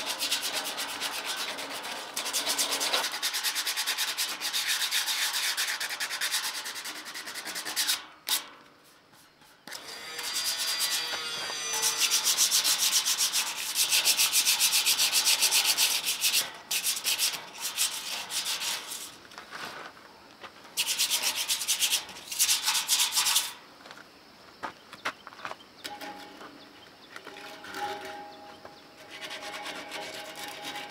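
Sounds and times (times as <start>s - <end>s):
sandpaper scraping metal: 0.0s - 19.8s, 20.8s - 23.6s, 27.3s - 30.9s.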